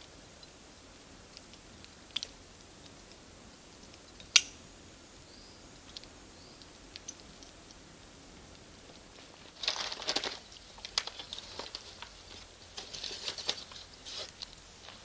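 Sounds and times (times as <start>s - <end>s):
campfire crackling: 0.0s - 15.0s
loud fire snap: 0.0s - 15.0s.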